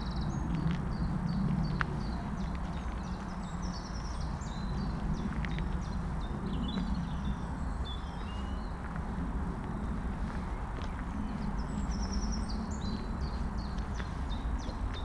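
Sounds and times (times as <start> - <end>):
birds chirping and trilling: 0.0 - 8.9, 9.6 - 15.0
footsteps on gravel: 0.4 - 7.2, 8.1 - 12.0, 12.9 - 15.0.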